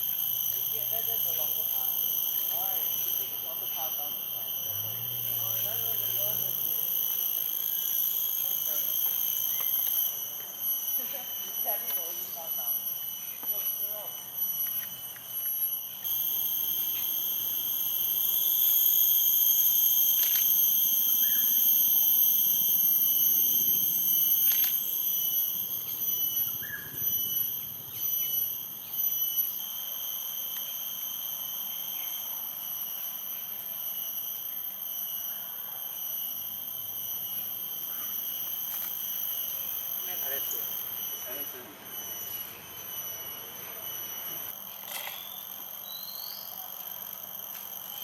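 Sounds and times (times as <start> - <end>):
shrill drone of insects: 0.0 - 48.0.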